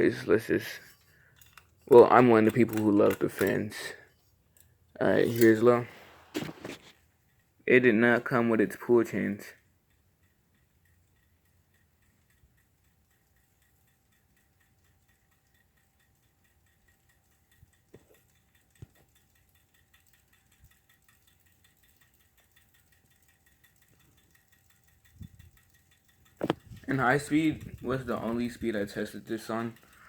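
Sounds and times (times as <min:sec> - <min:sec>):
ceiling fan hum: 0:00.0 - 0:30.0.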